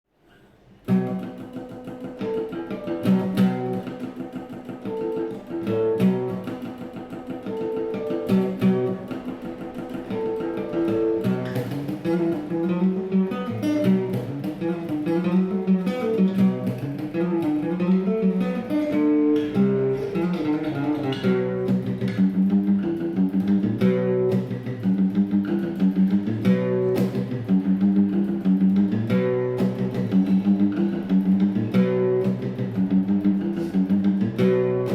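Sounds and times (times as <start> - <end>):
plucked guitar melody: 0.2 - 34.9.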